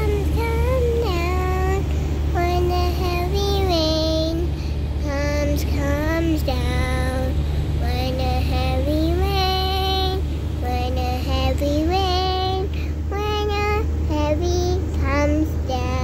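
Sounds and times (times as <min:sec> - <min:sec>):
child singing: 0:00.0 - 0:16.0
steady low hum: 0:00.0 - 0:16.0.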